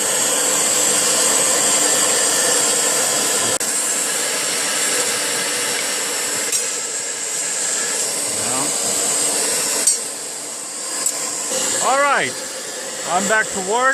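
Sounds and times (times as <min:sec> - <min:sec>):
electric air pump blowing: 0:00.0 - 0:13.9.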